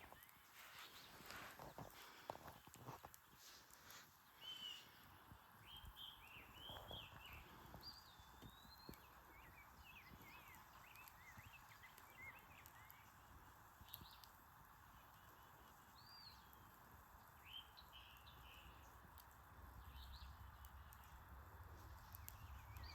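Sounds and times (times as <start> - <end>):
faint birdsong: 0.0 - 22.9.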